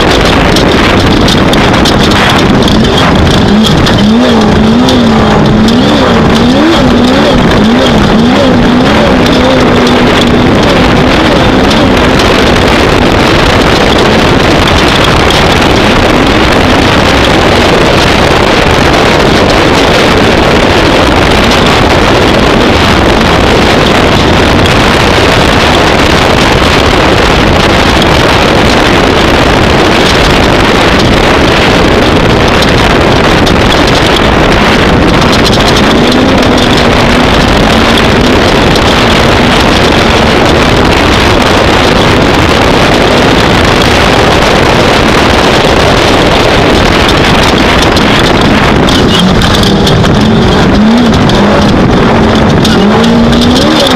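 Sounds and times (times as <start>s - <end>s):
engine running hard: 0.0s - 53.9s
wind and road noise: 0.0s - 53.9s.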